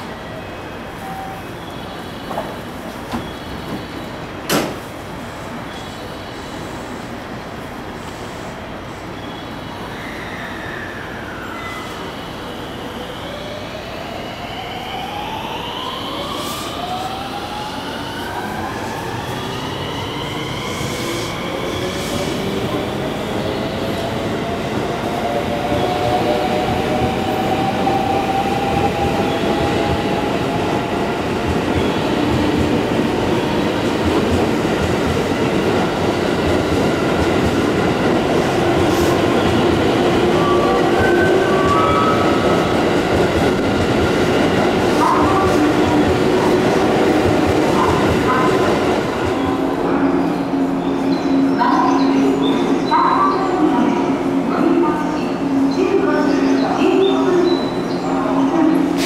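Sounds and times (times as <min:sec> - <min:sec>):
train cars running noise: 0:00.0 - 0:09.9, 0:15.2 - 0:59.0.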